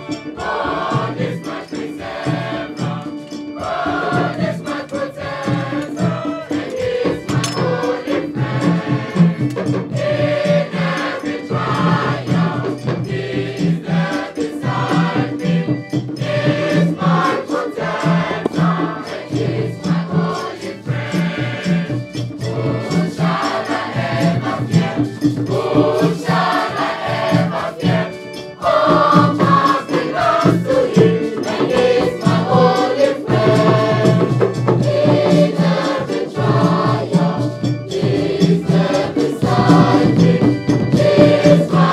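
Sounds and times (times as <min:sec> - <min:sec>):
choir singing in harmony: 0:00.0 - 0:41.9
hand drums beat: 0:00.0 - 0:41.9.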